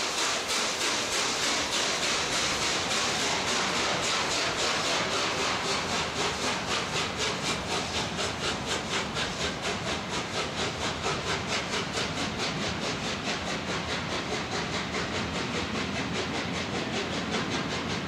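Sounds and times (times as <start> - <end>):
steady rush of steam: 0.0 - 18.0
steam locomotive exhaust chuffs: 0.0 - 18.0.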